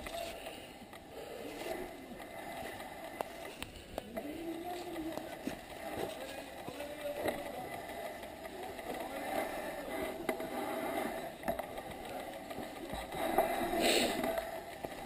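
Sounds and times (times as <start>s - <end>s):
bike rattles and clicks: 0.0s - 15.0s.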